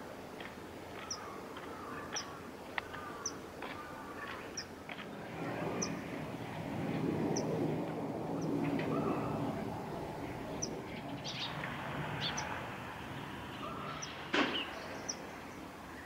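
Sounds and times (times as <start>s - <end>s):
birds chirping: 0.9s - 16.0s.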